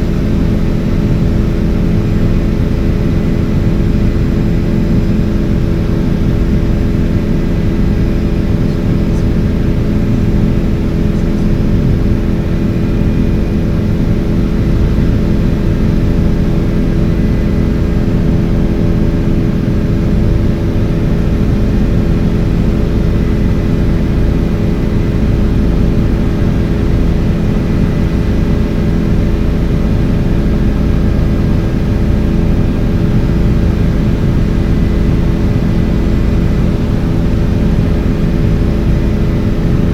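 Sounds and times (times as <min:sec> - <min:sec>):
helicopter engine and rotors droning: 0:00.0 - 0:39.9.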